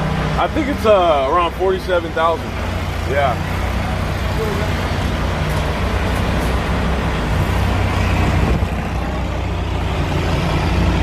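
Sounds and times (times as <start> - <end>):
large diesel engine running: 0.0 - 11.0.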